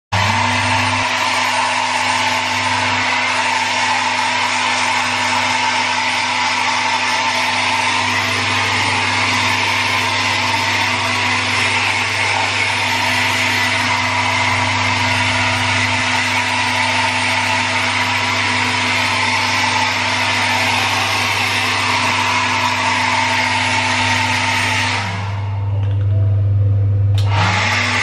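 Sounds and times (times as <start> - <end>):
hair dryer blowing: 0.1 - 25.8, 27.1 - 28.0.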